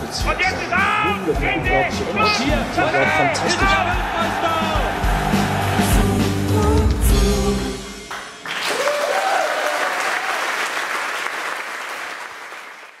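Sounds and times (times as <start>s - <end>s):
audience applauding and cheering: 0.0s - 6.8s, 8.1s - 13.0s.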